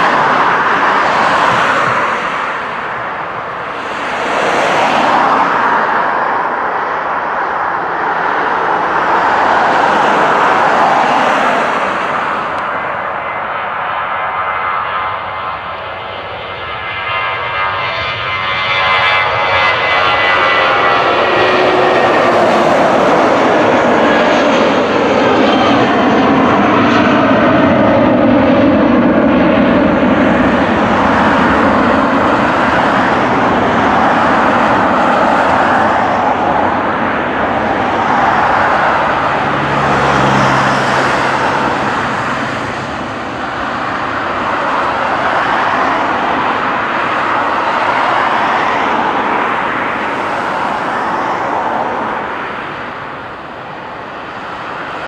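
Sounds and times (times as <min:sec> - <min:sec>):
jet engines roaring at takeoff: 0:00.0 - 0:55.0.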